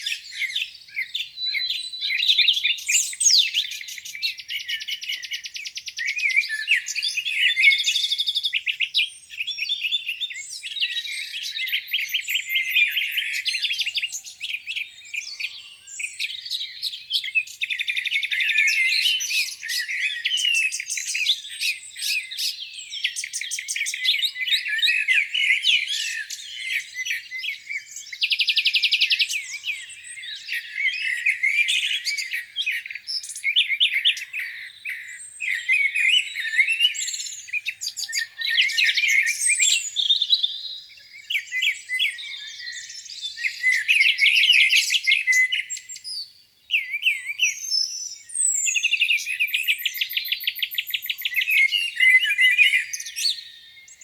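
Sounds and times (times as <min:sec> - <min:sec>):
songbirds dawn chorus: 0:00.0 - 0:54.0.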